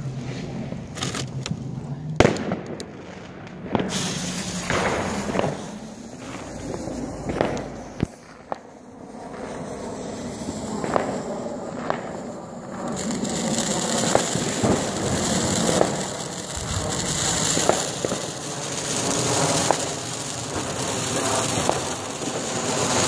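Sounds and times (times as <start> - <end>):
fireworks sharp cracks: 2.2 - 23.0
fireworks sparks hissing: 2.2 - 23.0.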